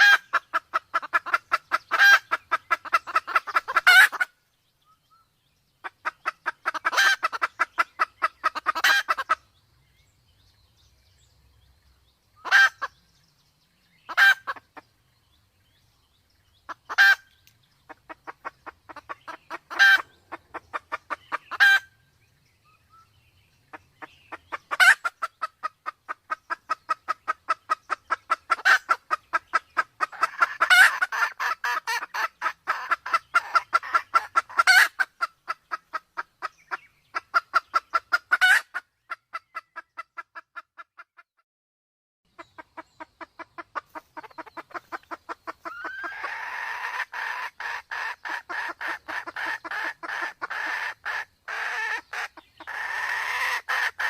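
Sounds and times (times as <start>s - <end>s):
junglefowl clucking: 0.0s - 4.4s, 5.8s - 9.5s, 12.4s - 13.0s, 14.0s - 14.9s, 16.6s - 22.0s, 23.7s - 41.4s, 42.3s - 54.0s.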